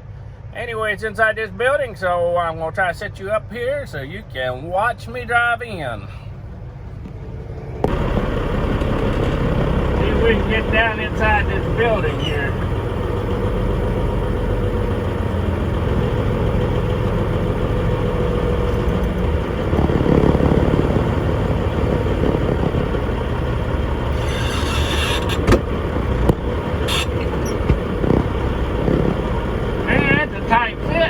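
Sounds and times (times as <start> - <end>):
diesel truck engine running: 5.7 - 31.0.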